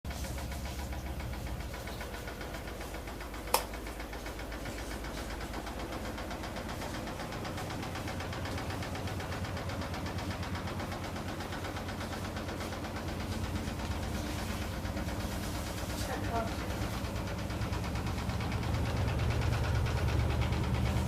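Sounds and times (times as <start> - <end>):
washing machine knocking: 0.0 - 21.0.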